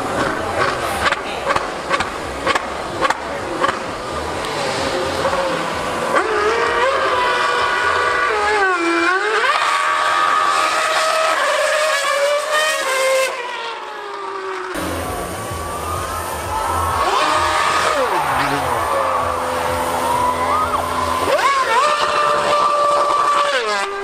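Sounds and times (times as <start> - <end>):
racing car engine screaming: 0.0 - 24.0.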